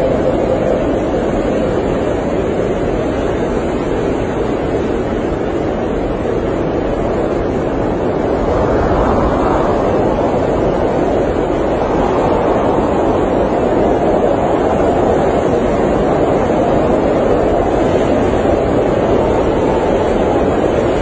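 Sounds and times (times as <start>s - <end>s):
blizzard wind roaring: 0.0s - 21.0s.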